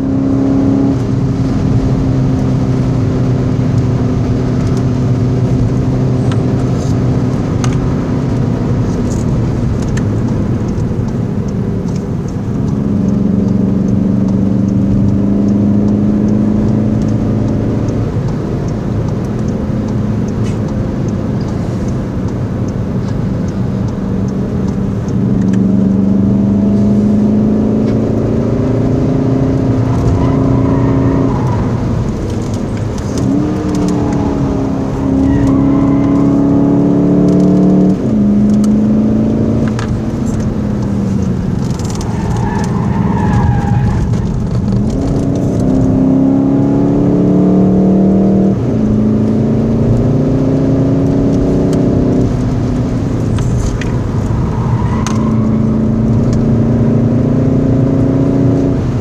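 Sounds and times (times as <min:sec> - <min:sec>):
car engine from inside cabin: 0:00.0 - 0:59.0
road noise: 0:00.0 - 0:59.0.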